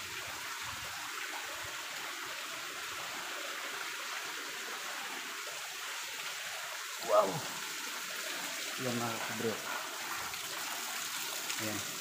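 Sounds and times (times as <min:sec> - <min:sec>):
small waterfall: 0:00.0 - 0:12.0.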